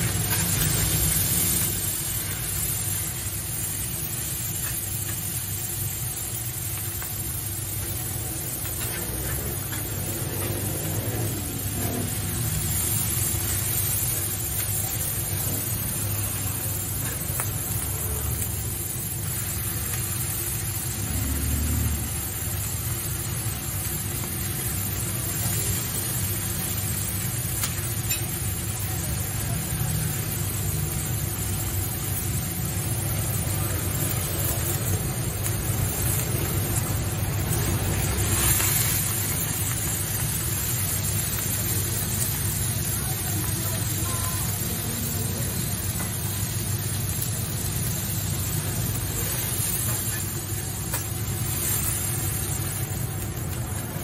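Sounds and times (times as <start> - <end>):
street traffic rumble: 0.0 - 54.0.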